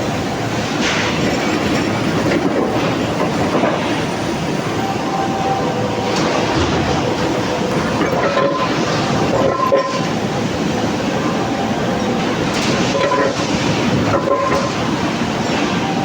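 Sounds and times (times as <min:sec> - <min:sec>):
machinery clattering and rumbling: 0:00.0 - 0:16.0.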